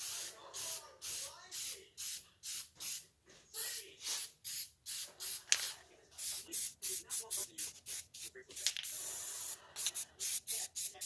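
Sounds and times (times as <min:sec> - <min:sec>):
spray paint can hissing: 0:00.0 - 0:03.0, 0:04.0 - 0:11.0.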